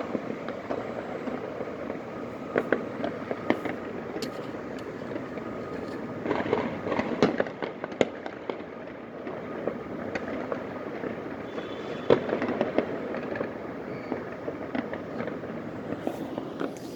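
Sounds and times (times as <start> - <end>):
distant fireworks crackle: 0.0 - 16.9
fireworks pops and bangs: 0.0 - 16.9.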